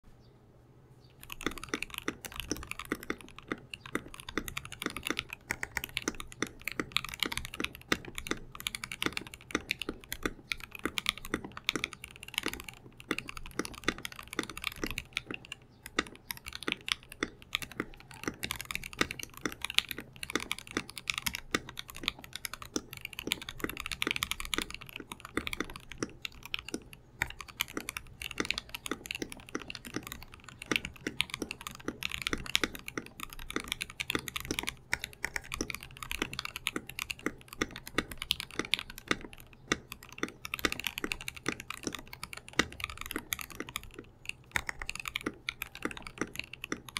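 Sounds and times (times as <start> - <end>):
mechanical keyboard typing: 1.2 - 46.9.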